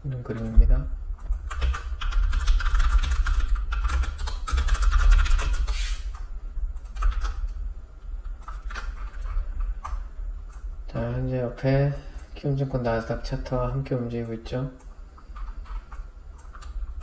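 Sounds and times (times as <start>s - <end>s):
steady low hum: 0.0s - 17.0s
keyboard typing: 0.1s - 7.6s, 8.2s - 11.1s, 11.8s - 17.0s.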